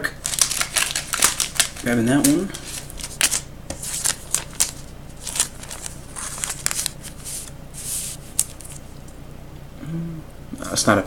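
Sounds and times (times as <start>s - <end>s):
trading cards rustling and clicking: 0.2s - 9.1s.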